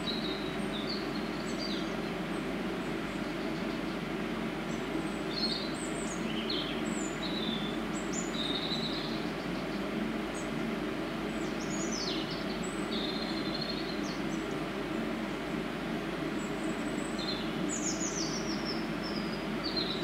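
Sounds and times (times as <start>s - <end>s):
small birds chirping: 0.0s - 15.5s, 16.2s - 20.0s.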